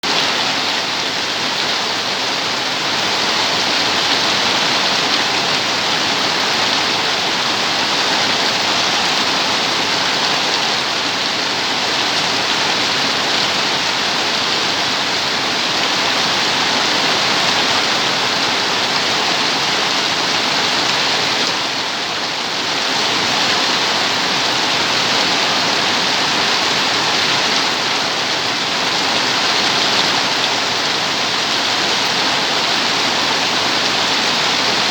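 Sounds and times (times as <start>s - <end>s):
rain falling steadily: 0.0s - 34.9s.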